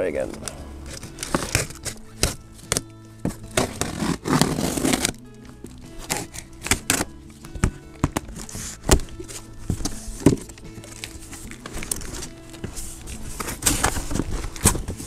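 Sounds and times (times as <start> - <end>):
background music: 0.0 - 15.0
cardboard scraping and rustling: 0.2 - 5.2, 6.0 - 7.1, 8.0 - 15.0
packing tape ripping: 0.3 - 7.2, 8.0 - 15.0.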